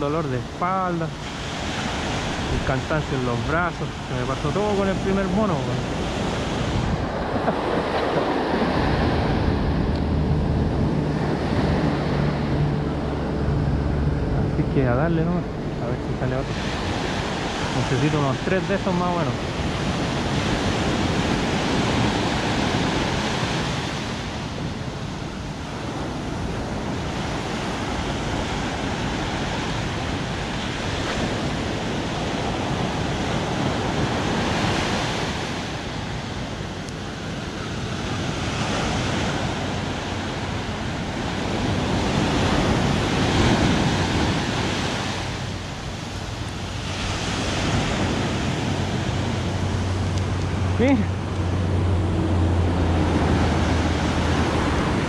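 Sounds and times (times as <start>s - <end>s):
waves washing onto shore: 0.0s - 55.0s
wind on microphone: 0.0s - 55.0s.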